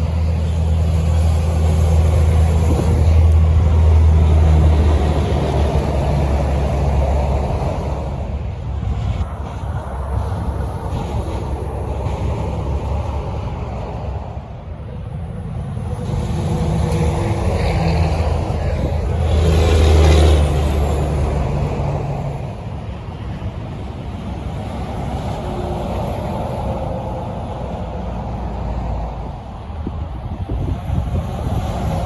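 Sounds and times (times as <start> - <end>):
road noise: 0.0 - 32.0
truck driving past: 0.0 - 32.0.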